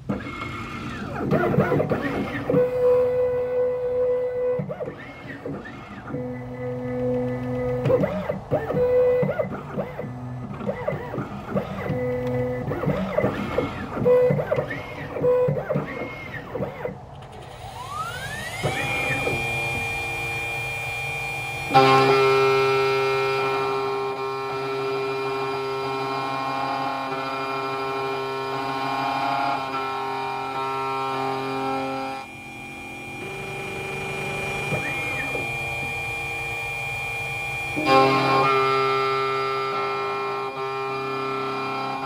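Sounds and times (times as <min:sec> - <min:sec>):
key cutting machine whining: 0:00.0 - 0:42.0.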